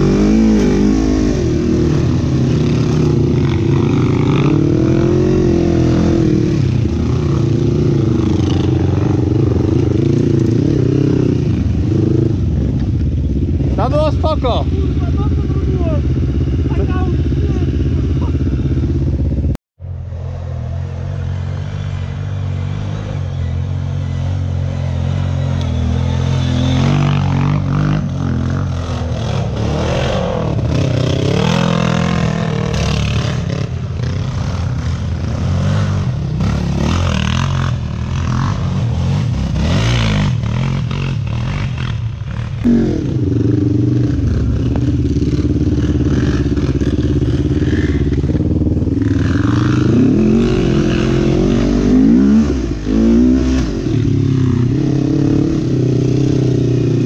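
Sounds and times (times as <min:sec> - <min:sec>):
quad engine revving: 0:00.0 - 0:12.8, 0:21.0 - 0:57.0.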